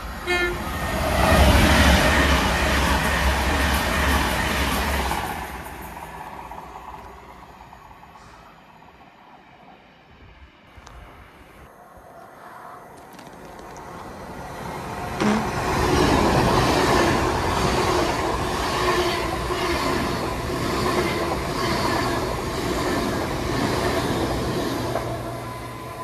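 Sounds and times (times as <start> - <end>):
train wheels on rail: 0.0 - 11.6, 12.8 - 26.0.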